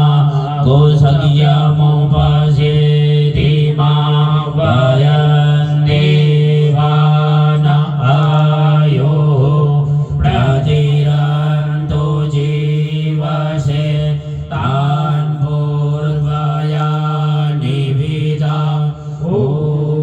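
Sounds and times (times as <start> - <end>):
mantras chanted on droning note: 0.0 - 20.0.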